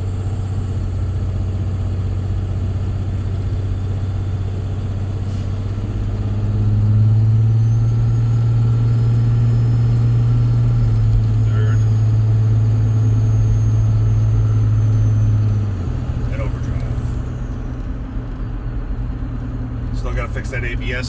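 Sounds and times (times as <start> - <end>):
diesel truck engine: 0.0 - 21.0.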